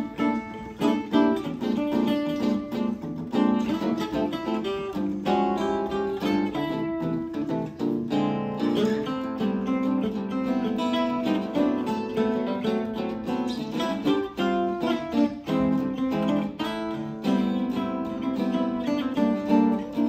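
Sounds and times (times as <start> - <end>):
guitar duet: 0.0 - 20.0.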